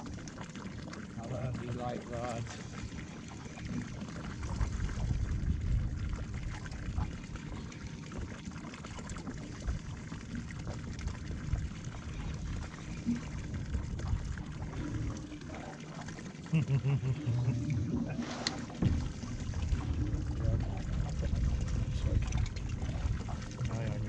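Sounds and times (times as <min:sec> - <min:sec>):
low uneven rumble: 0:00.0 - 0:24.0
water lapping against boat hull: 0:00.0 - 0:24.0.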